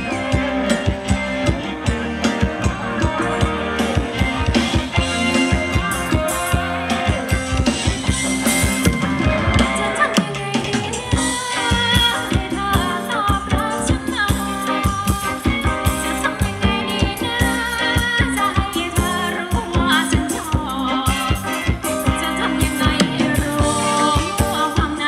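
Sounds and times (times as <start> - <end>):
person singing: 0.0 - 25.0
steady drum beat: 0.0 - 25.0.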